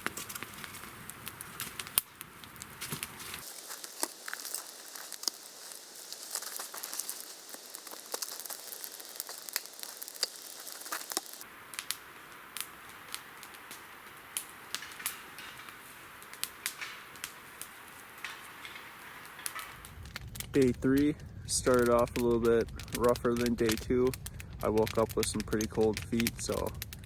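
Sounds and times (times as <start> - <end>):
burning wood snaps and pops: 0.0 - 27.0
campfire crackling: 0.0 - 27.0.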